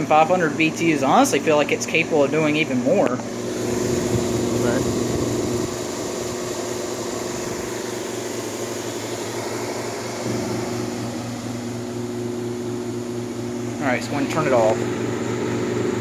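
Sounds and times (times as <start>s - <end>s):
air conditioner blower airflow: 0.0s - 16.0s
compressor hum: 0.0s - 16.0s.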